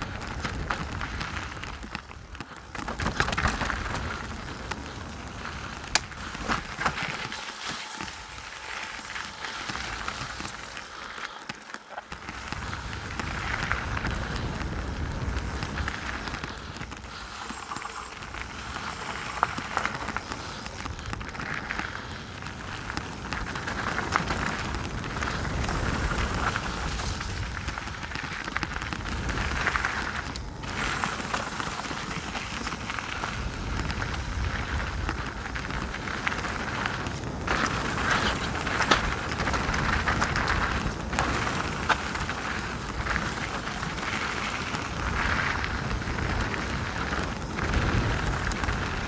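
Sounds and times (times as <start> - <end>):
wind rumbling on microphone: 0.0 - 11.3, 12.0 - 49.0
bike tyres rattling over gravel: 0.0 - 49.0.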